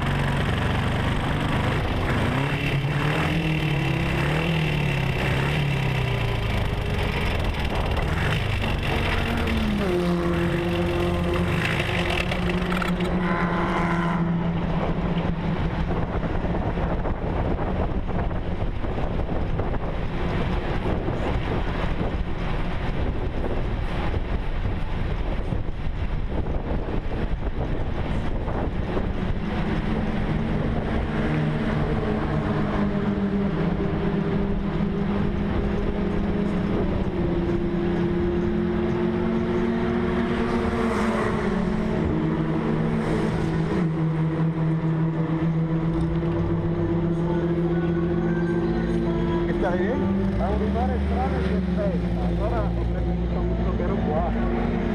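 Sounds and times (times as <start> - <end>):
heavy wind noise: 0.0 - 13.2, 13.9 - 54.9
racing car engine running: 0.0 - 54.9.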